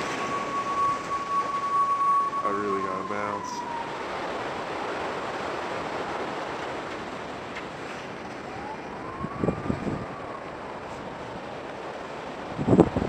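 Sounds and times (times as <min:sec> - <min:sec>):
distant siren wail: 0:00.0 - 0:13.0
ocean surf: 0:00.0 - 0:13.0
wind: 0:00.0 - 0:13.0.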